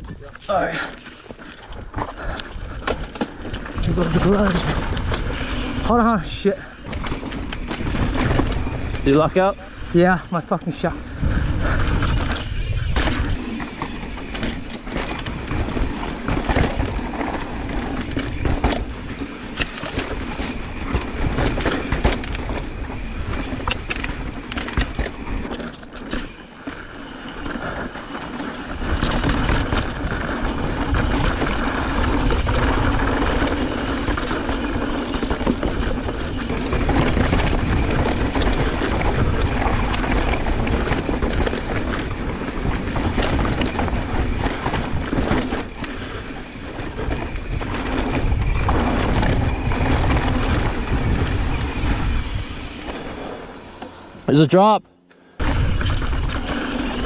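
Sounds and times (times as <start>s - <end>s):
bike knocking and rattling: 0.0s - 54.7s, 55.4s - 57.0s
bike tyres crunching over dirt: 0.0s - 57.0s.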